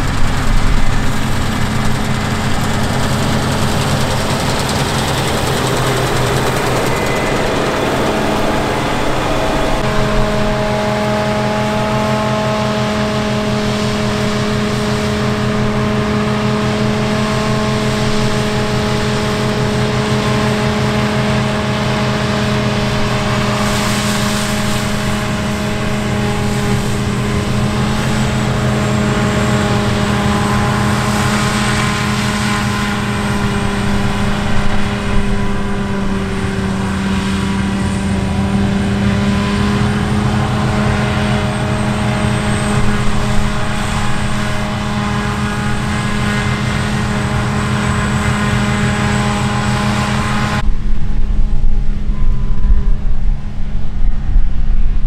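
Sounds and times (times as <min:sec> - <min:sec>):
threshing machinery rushing: 0:00.0 - 0:52.1
combine harvester engine drone: 0:00.0 - 0:55.0.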